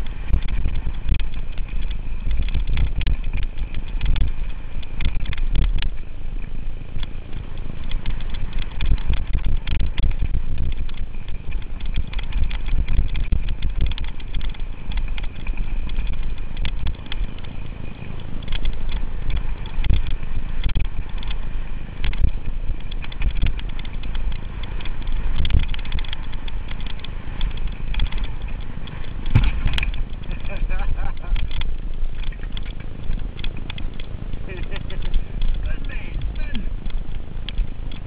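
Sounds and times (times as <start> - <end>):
bike chain and frame rattling: 0.0 - 38.0
tyres rumbling on dirt: 0.0 - 38.0
wind buffeting microphone: 0.0 - 38.0.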